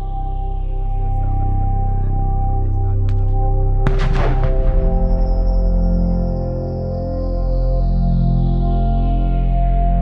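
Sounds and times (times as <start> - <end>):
ambient music with held tones: 0.0 - 10.0.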